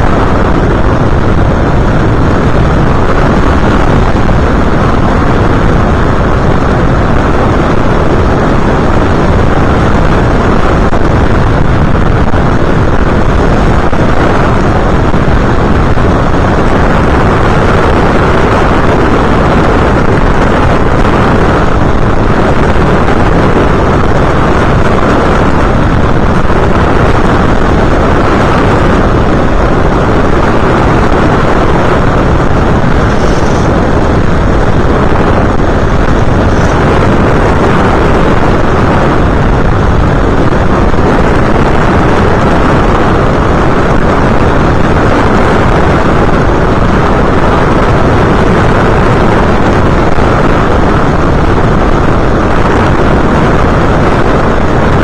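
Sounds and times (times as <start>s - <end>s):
aircraft motor noise: 0.0s - 55.0s
wind rushing: 0.0s - 55.0s.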